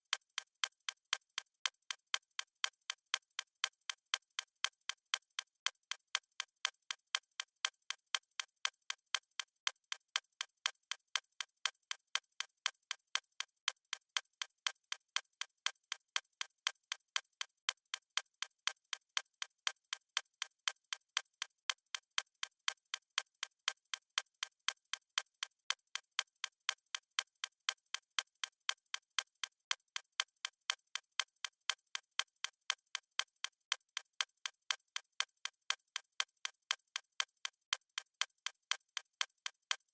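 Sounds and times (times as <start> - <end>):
stopwatch ticking: 0.0 - 39.9.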